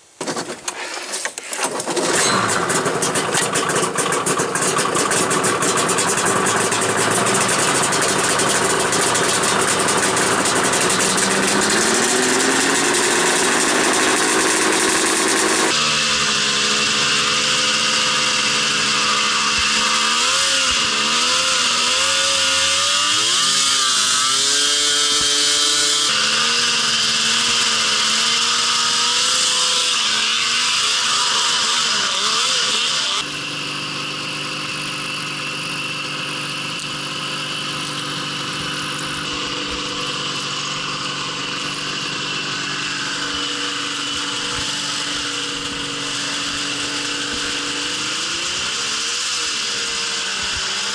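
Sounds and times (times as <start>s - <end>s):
snowmobile engine running: 1.6s - 50.9s.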